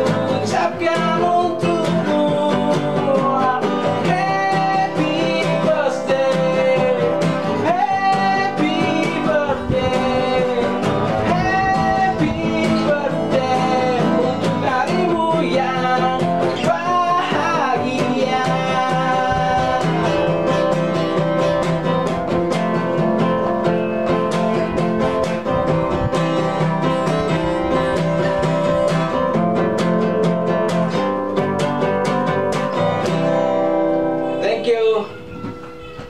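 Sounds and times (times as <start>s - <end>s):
acoustic guitar strumming chords: 0.0s - 36.0s
classical guitar picking notes: 0.0s - 36.0s.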